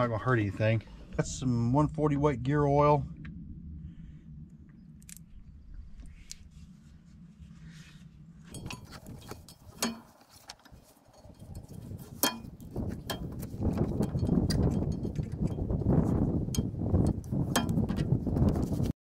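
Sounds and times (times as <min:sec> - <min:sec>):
faint low hum: 0:00.0 - 0:16.1.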